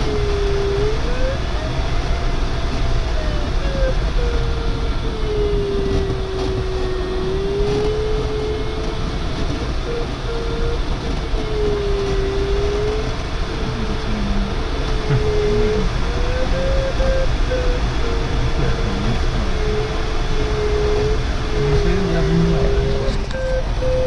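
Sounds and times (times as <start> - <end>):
variometer tone sliding in pitch: 0.0 - 2.3, 3.1 - 24.0
cockpit airflow noise: 0.0 - 24.0.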